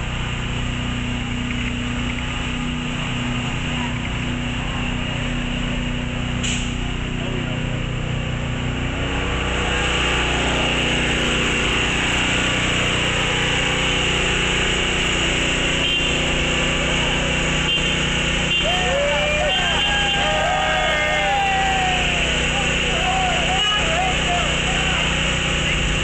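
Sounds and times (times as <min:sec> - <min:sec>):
small motor droning: 0:00.0 - 0:26.0.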